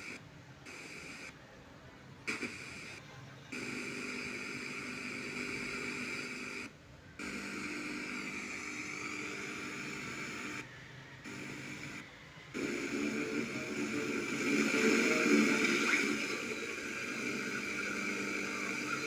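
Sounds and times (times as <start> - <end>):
tv speaker droning tone: 0.0 - 19.0.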